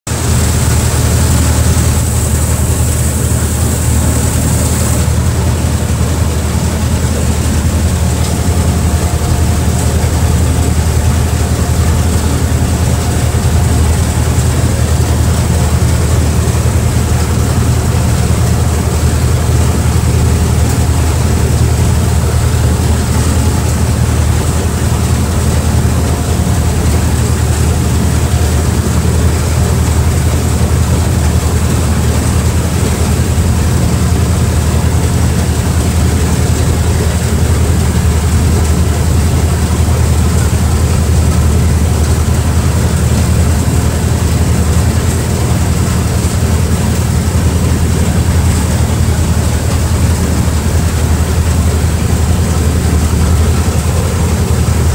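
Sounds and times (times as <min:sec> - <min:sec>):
speedboat engine droning: 0:00.1 - 0:54.9
water rushing past hull: 0:00.1 - 0:54.9.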